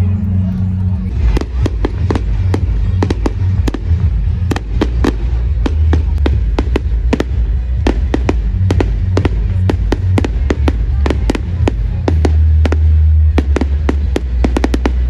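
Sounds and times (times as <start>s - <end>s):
music with heavy bass: 0.0s - 15.0s
fireworks bangs and crackles: 1.0s - 15.0s.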